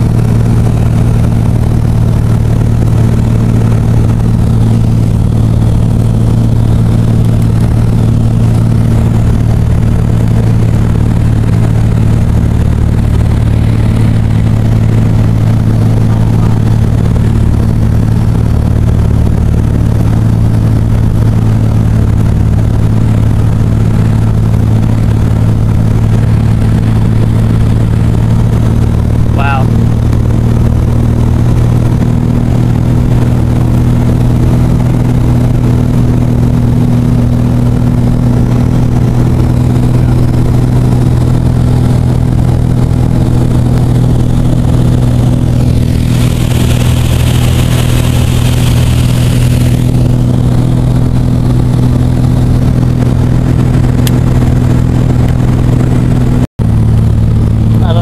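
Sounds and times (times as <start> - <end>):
small aircraft engine drone: 0.0 - 58.0.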